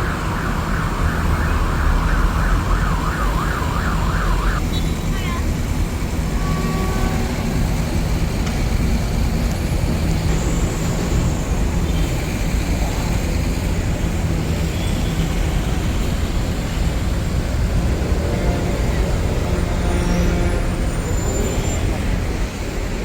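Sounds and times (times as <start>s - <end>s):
tractor engines droning: 0.0s - 23.0s.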